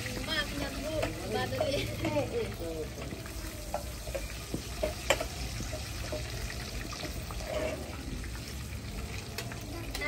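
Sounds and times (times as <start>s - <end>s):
dough sizzling in hot oil: 0.0s - 10.0s
metal utensils clinking on pan: 0.1s - 8.4s.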